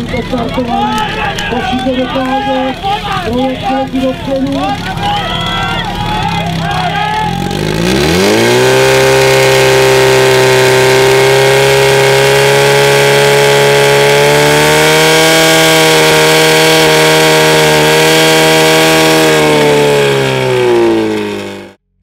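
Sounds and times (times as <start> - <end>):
fire pump engine running: 0.0 - 21.8.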